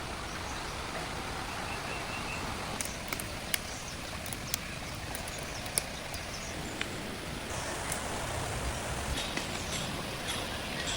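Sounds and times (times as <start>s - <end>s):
steady hiss: 0.0s - 10.9s.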